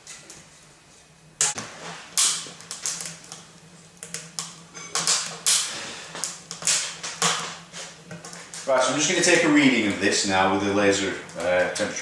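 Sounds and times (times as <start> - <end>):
kindling crackling and popping: 0.0 - 12.0.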